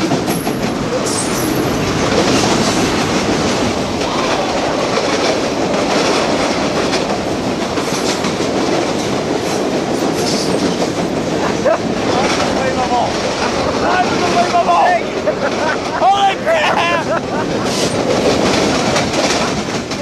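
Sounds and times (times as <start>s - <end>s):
train wheels rolling on rail: 0.0s - 20.0s.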